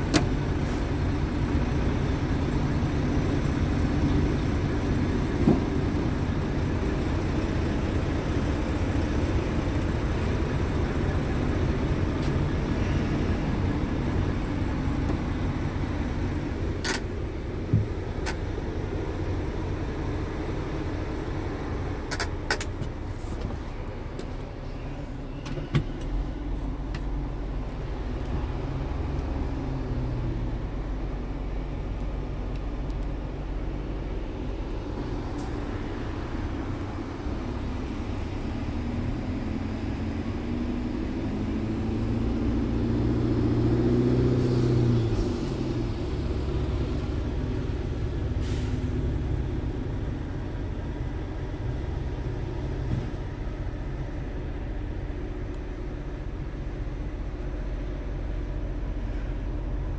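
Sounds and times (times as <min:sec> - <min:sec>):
diesel engine idling and revving: 0:00.0 - 0:59.9.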